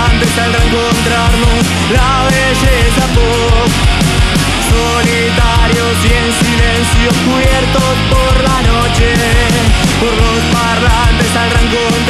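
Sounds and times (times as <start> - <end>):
bass guitar: 0.0 - 12.0
electric guitars: 0.0 - 12.0
held melody line: 0.0 - 12.0
steady drum beat: 0.0 - 12.0.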